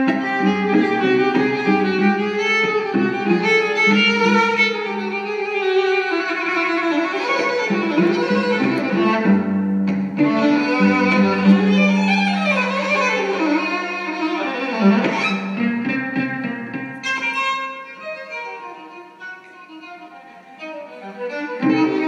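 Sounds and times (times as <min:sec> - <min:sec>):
violin melody: 0:00.0 - 0:22.0.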